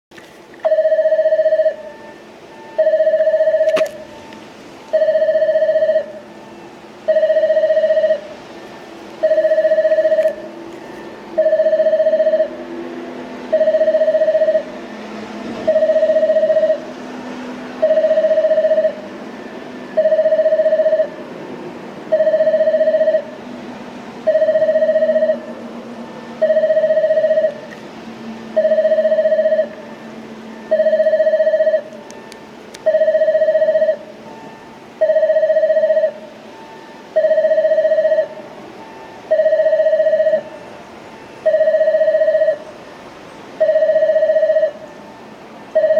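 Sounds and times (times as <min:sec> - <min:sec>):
train warning buzzer: 0:00.6 - 0:45.9.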